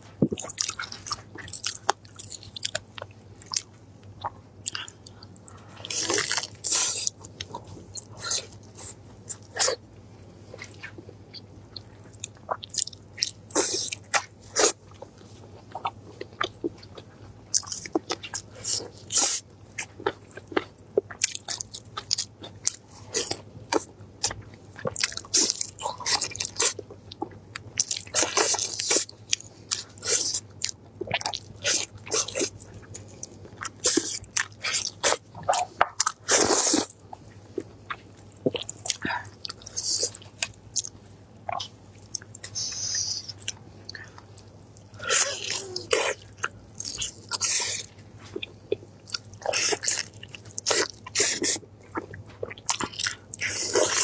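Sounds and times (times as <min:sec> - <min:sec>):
faint low hum: 0:00.0 - 0:54.0
wet chewing and smacking: 0:00.2 - 0:09.8, 0:10.5 - 0:54.0.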